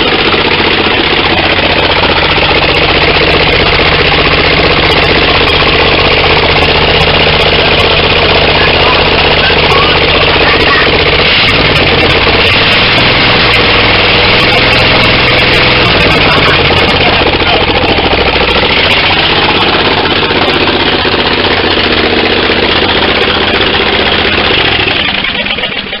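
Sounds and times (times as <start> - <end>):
garden tractor engine running: 0.0 - 26.0.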